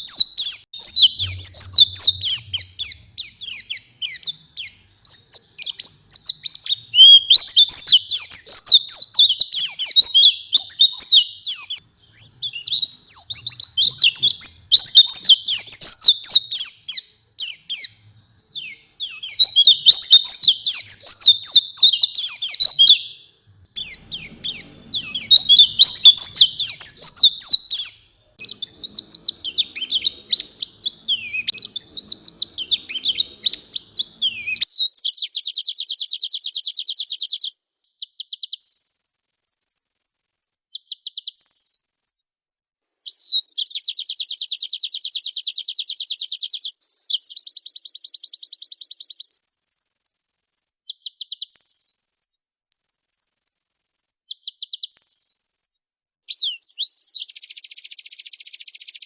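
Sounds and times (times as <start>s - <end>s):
bird twittering and trilling: 0.0s - 42.2s, 43.1s - 59.0s.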